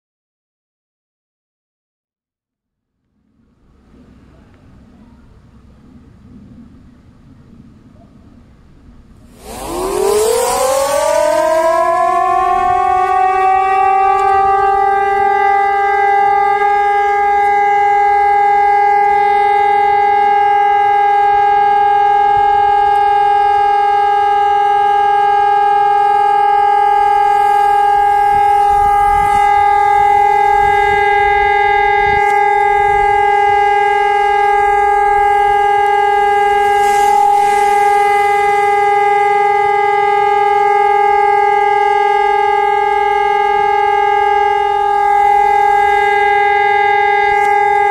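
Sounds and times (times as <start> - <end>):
alarm siren steady tone: 9.2 - 47.9.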